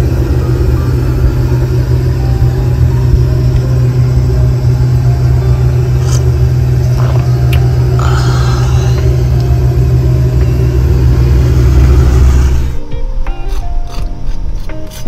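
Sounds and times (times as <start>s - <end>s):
car engine rumbling: 0.0s - 13.2s.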